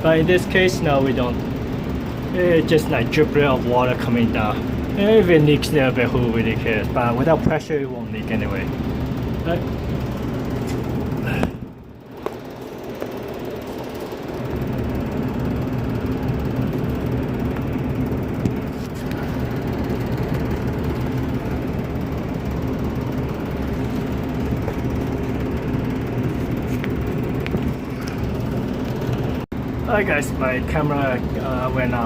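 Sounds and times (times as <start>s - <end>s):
gas furnace humming: 0.0s - 32.0s.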